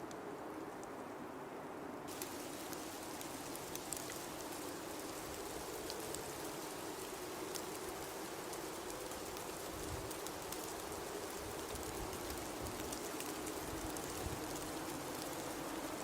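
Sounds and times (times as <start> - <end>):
small sharp ticks: 2.1 - 16.0.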